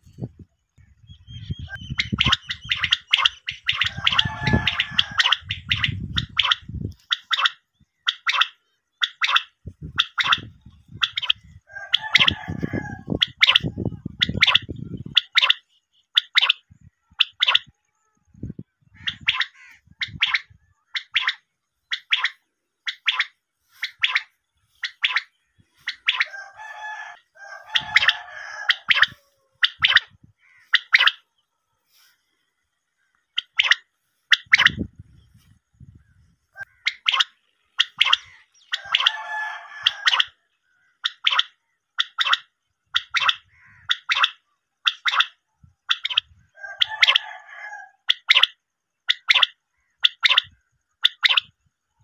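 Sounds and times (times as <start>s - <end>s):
quail calling: 0.0s - 18.2s, 18.8s - 51.6s.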